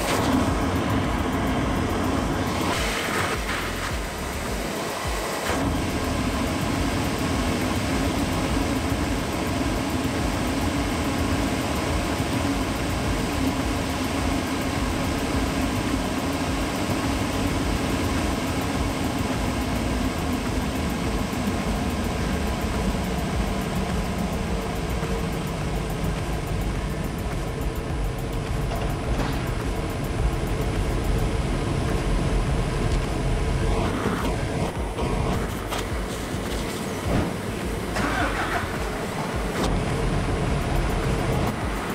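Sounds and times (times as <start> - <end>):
dust collector fan running: 0.0 - 41.9.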